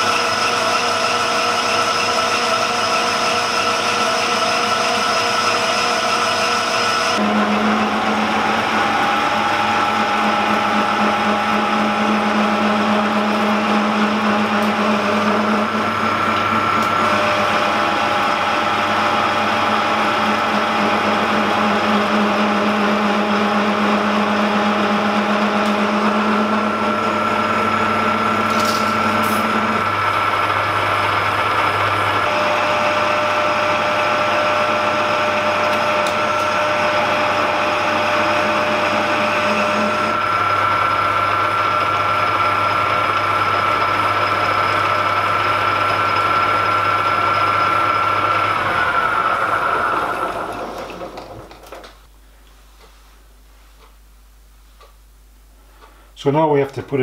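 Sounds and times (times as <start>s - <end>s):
metal lathe cutting steel: 0.0s - 51.8s.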